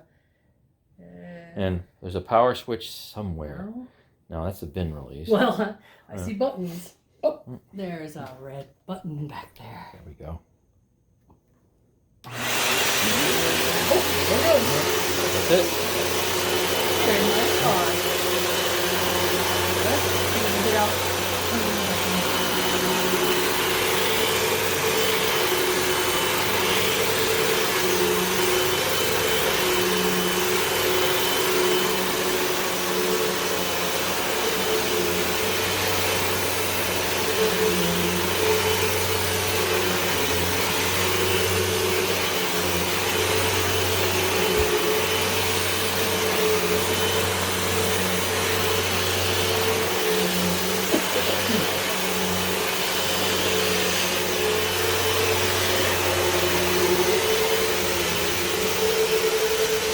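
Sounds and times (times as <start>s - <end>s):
vacuum cleaner running: 5.3s - 6.8s, 12.2s - 59.9s.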